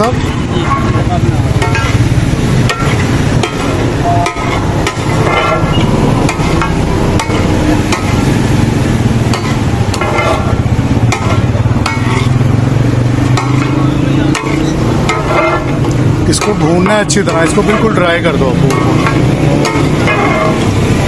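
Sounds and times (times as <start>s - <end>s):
metal spatulas clanging on griddle: 0.0s - 12.5s, 13.2s - 21.0s.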